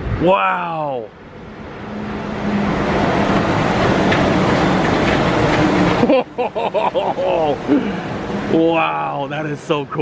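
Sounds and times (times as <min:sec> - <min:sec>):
monorail train passing overhead: 0:00.0 - 0:10.0.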